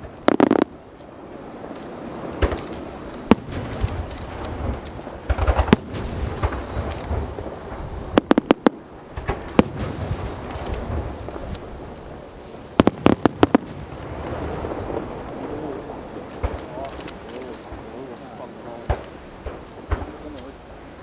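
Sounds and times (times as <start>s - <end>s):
fireworks bangs: 0.0s - 21.0s
fireworks crackling pops: 0.0s - 21.0s.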